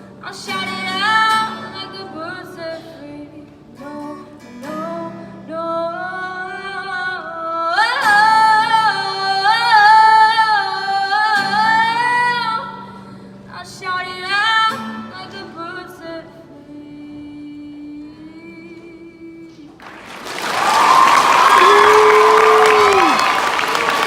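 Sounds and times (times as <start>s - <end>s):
woman singing: 0.0s - 19.9s
acoustic guitar: 0.0s - 23.2s.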